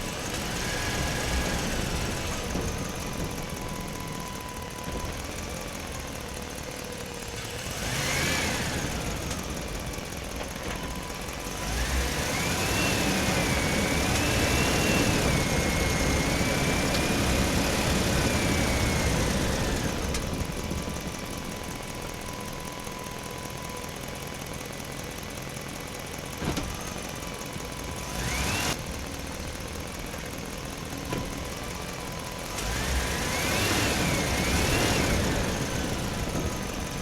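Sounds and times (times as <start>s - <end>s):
small motor whining: 0.0s - 24.4s, 26.4s - 28.9s, 31.0s - 37.0s.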